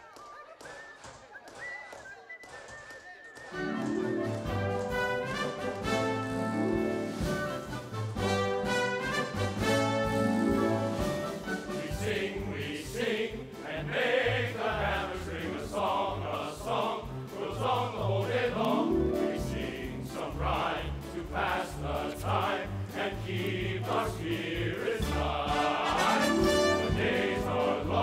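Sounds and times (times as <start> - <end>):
chorus singing: 3.4 - 28.0
orchestral accompaniment: 3.5 - 28.0.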